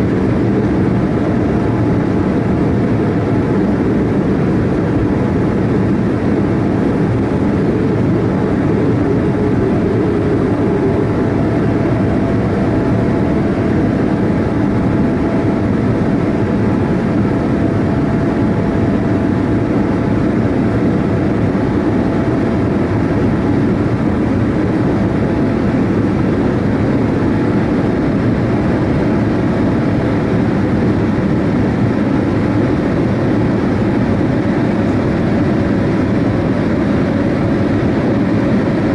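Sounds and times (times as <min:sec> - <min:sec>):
faint steady hum: 0:00.0 - 0:38.9
jet engines rumbling: 0:00.0 - 0:38.9.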